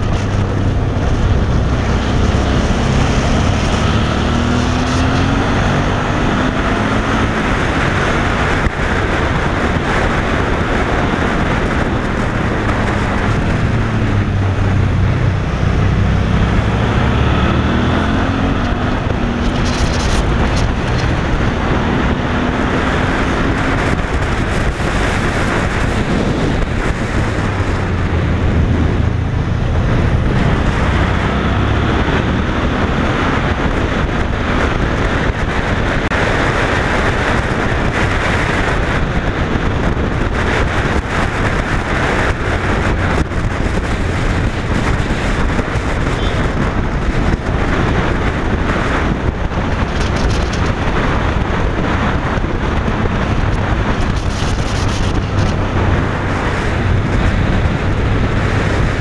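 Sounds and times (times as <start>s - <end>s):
motorcycle engine revving: 0.0s - 59.0s
wind rushing on microphone: 0.0s - 59.0s.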